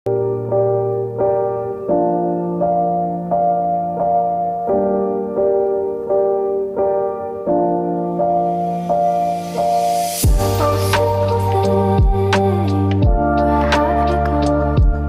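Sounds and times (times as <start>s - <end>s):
gentle piano melody: 0.1s - 15.0s.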